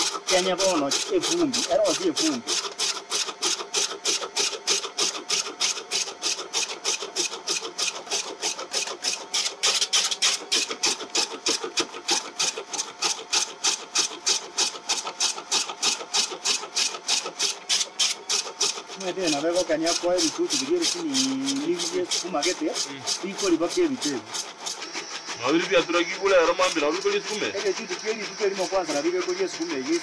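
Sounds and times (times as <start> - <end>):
spinning blade slicing greens: 0.0 - 30.0.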